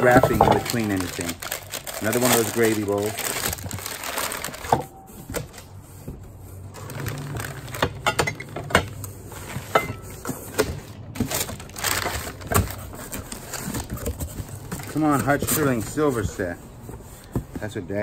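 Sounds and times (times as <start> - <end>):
newspaper rustling: 0.0 - 7.9, 9.1 - 18.0.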